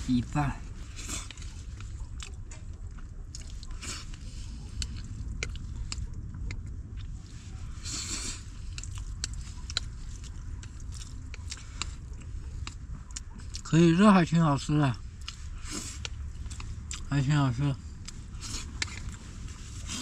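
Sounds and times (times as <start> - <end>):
steady low rumble: 0.0 - 20.0
person chewing: 0.1 - 13.7, 15.0 - 17.2, 17.8 - 20.0.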